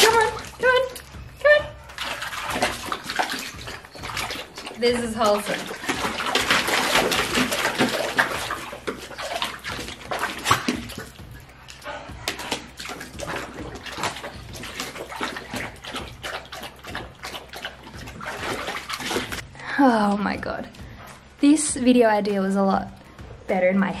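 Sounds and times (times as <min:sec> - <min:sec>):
dog lapping water: 0:00.0 - 0:19.4
dog splashing in water: 0:00.0 - 0:19.4.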